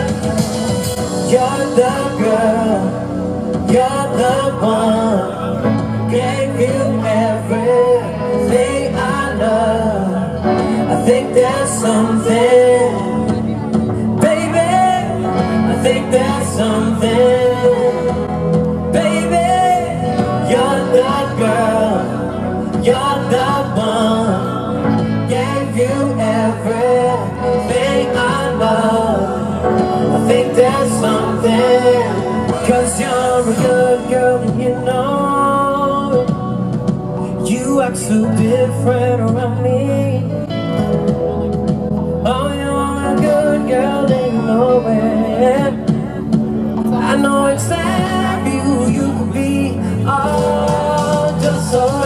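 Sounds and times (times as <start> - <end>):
drums: 0.0 - 52.0
guitars: 0.0 - 52.0
man singing: 0.0 - 52.0.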